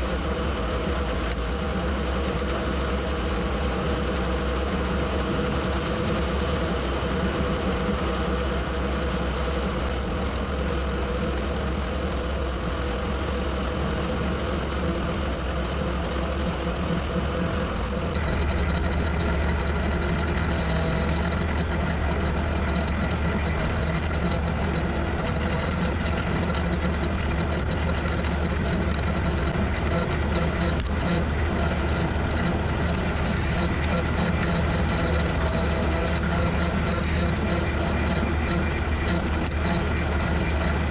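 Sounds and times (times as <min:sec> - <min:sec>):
thin high whine: 0:00.0 - 0:40.9
tractor engine running under load: 0:00.0 - 0:40.9.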